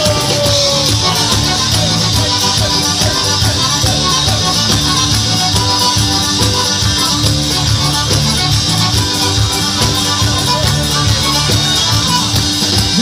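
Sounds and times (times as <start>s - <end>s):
fast instrumental folk dance music: 0.0s - 13.0s.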